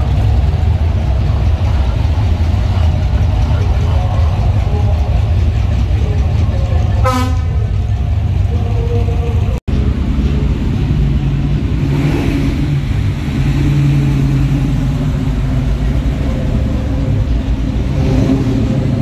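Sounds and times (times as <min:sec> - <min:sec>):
car engine running: 0:00.0 - 0:19.0
cars passing: 0:00.0 - 0:19.0
lorry engine rumble: 0:00.0 - 0:19.0.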